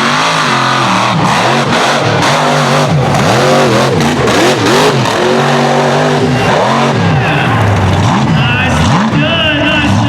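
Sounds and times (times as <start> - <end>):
truck engine revving hard: 0.0 - 10.0.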